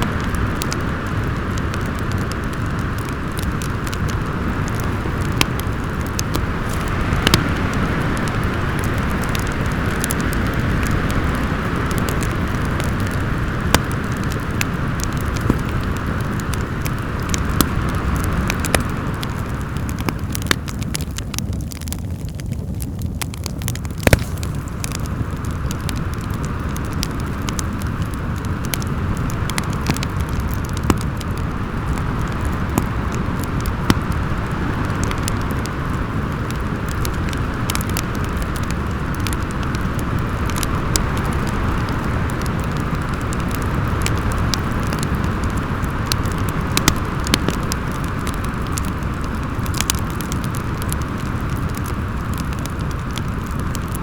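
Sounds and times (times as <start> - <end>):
storm wind: 0.0 - 54.0
wood fire crackling and popping: 0.0 - 54.0.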